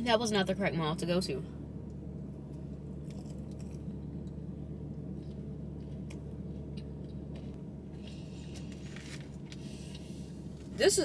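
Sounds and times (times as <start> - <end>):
low car interior hum: 0.0 - 11.0.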